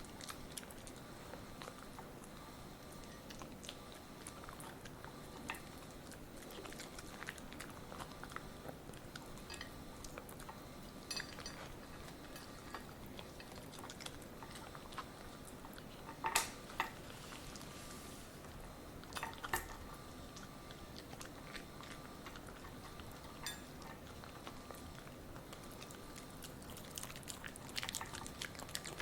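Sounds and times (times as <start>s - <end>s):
dog chewing and crunching: 0.0s - 29.0s.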